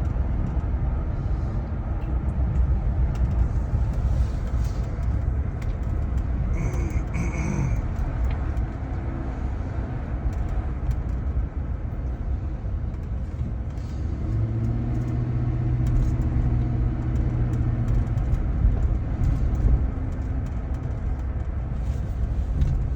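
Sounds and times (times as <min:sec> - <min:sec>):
engine hum: 0:00.0 - 0:22.9
vehicle rumble: 0:00.0 - 0:22.9.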